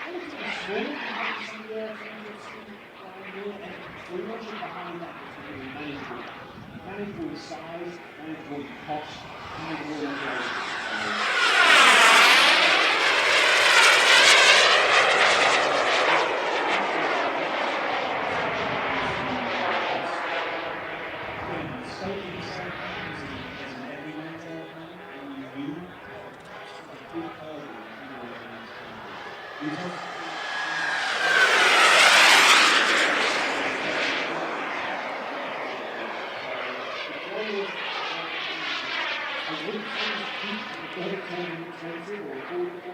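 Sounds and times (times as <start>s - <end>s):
model jet turbine flying past: 0.0s - 42.9s.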